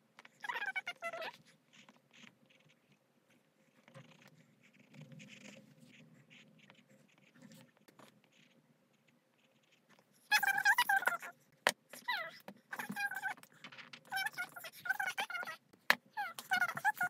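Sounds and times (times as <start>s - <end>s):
pencil scratching on paper: 0.2s - 17.0s.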